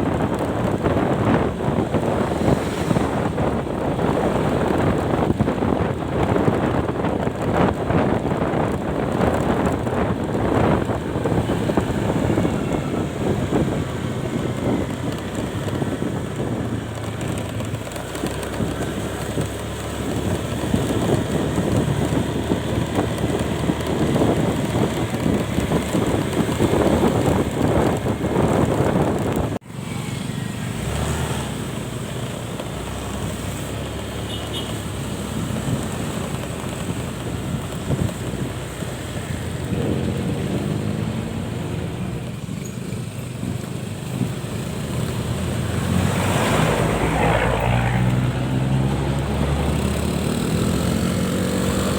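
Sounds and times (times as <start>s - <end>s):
road vehicle noise: 0.0s - 51.9s
wind rushing over microphone: 0.0s - 51.9s.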